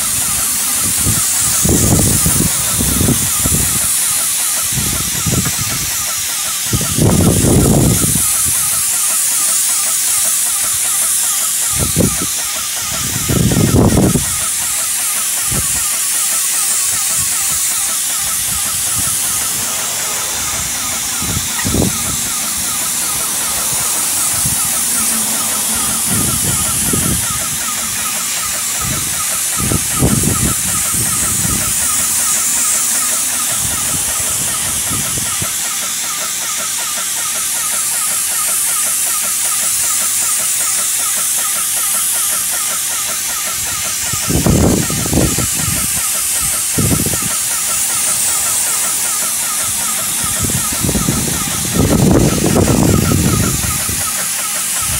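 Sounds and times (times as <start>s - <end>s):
fast even ticking: 0.0s - 54.9s
paint sprayer hissing: 0.0s - 54.9s.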